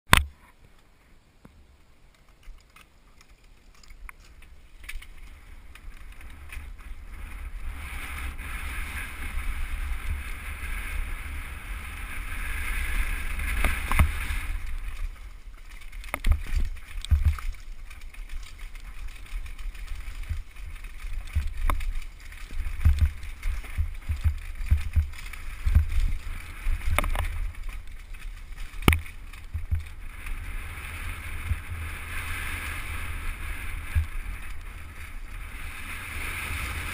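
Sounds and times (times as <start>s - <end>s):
bike knocking and rattling: 2.1s - 36.9s
bike tyres rumbling on dirt: 2.3s - 36.9s
wind buffeting: 4.4s - 36.9s.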